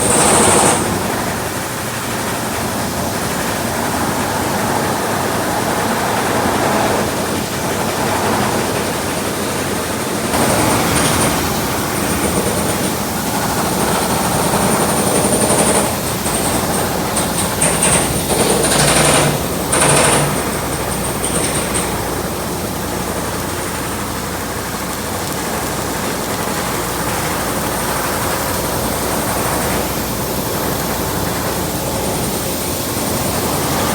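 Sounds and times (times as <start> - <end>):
welding arc crackling and hissing: 0.0 - 5.6, 6.2 - 33.9.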